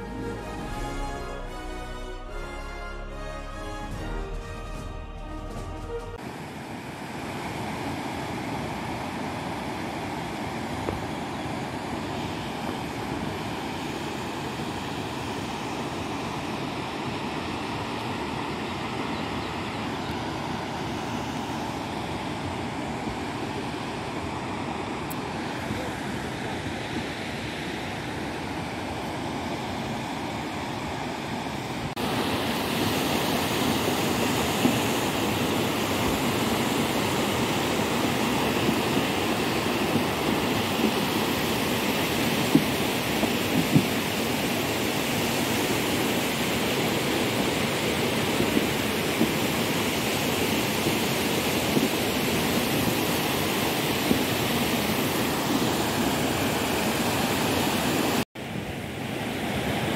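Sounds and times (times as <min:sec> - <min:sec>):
floodwater rushing down river: 0:06.2 - 0:59.9.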